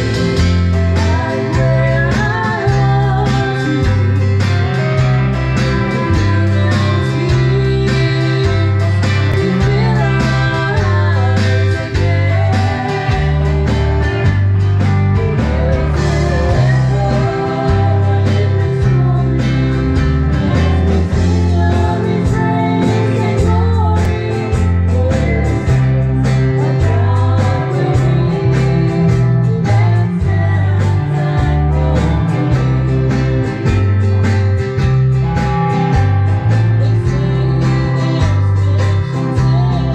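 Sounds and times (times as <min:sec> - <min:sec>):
electric guitars and bass: 0:00.0 - 0:39.9
person singing: 0:00.0 - 0:39.9.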